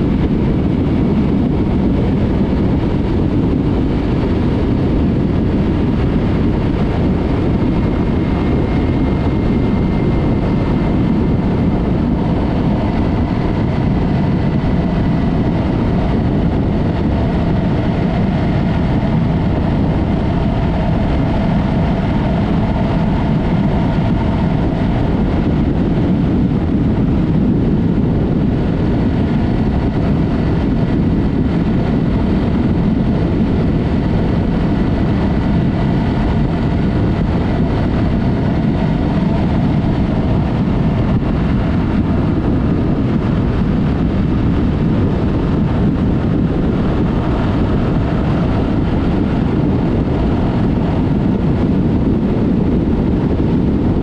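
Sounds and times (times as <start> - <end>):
motorcycle engine and road noise: 0.0 - 54.0.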